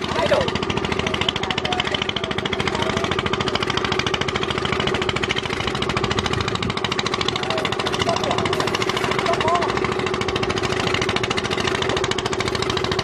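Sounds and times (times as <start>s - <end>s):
engine chugging: 0.0s - 13.0s.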